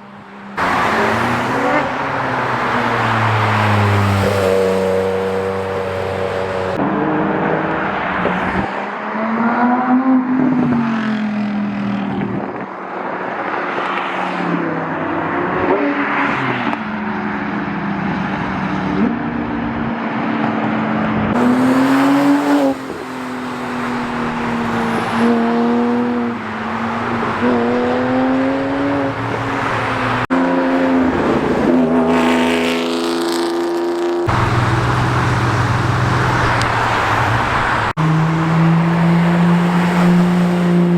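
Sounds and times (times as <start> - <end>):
cars accelerating hard: 0.5 - 40.9.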